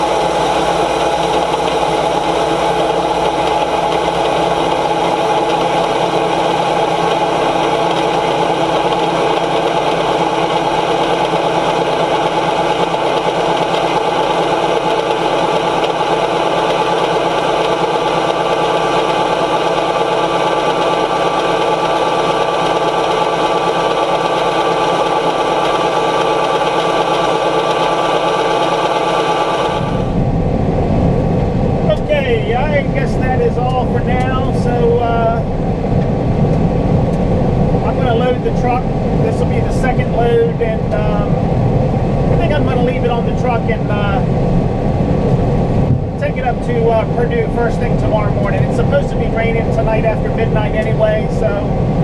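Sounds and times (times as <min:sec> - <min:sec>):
combine harvester running: 0:00.0 - 0:52.0.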